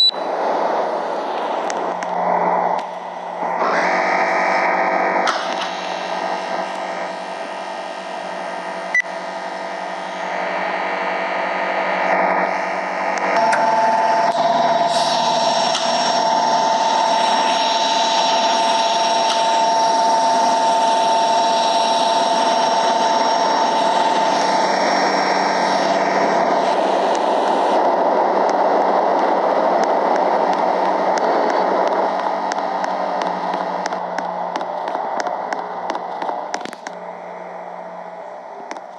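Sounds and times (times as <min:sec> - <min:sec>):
air conditioner whooshing hum: 0:00.0 - 0:38.9
steady tones: 0:00.0 - 0:38.9.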